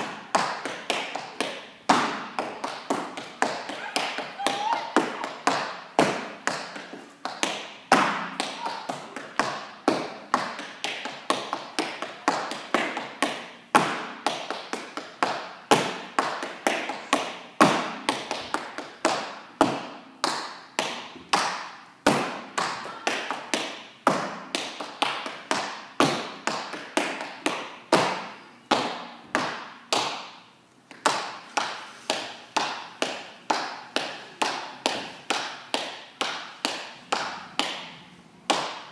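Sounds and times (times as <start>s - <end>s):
dance shoes tapping hard floor: 0.0s - 38.9s.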